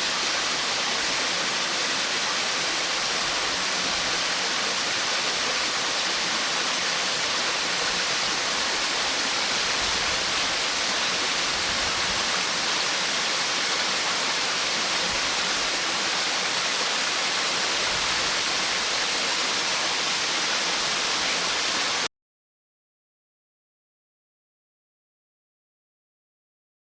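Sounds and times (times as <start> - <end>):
waterfall rushing: 0.0 - 22.1.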